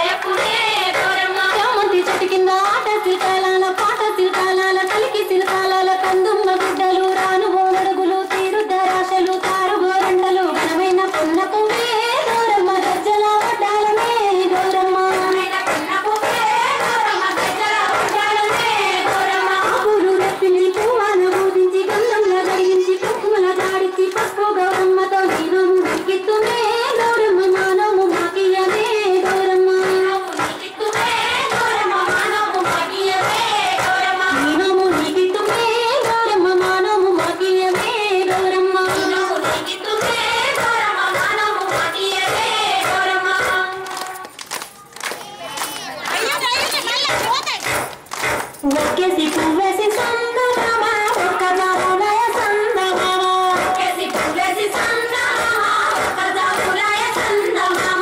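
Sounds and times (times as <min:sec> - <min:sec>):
steady beat: 0:00.0 - 0:44.0, 0:45.7 - 0:58.0
women singing folk song: 0:00.0 - 0:44.3, 0:48.6 - 0:58.0
music: 0:00.0 - 0:46.2, 0:47.1 - 0:58.0.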